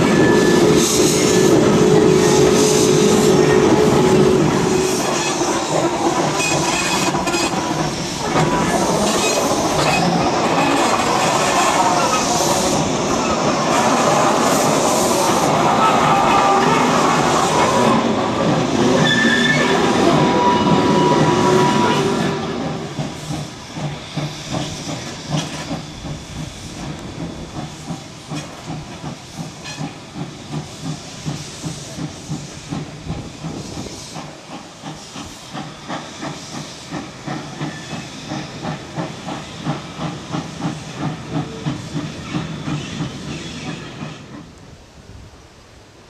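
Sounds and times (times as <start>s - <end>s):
steam locomotive exhaust chuffing: 0.0s - 44.6s
hiss of steam: 0.0s - 46.0s.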